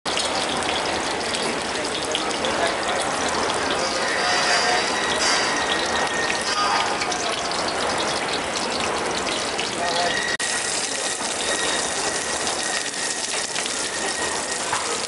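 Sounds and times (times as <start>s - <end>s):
onions sizzling in hot oil: 0.1s - 15.0s.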